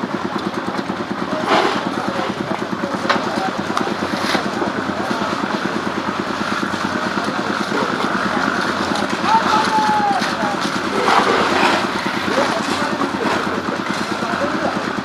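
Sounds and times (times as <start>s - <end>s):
engine running with rapid pulse: 0.0s - 15.0s.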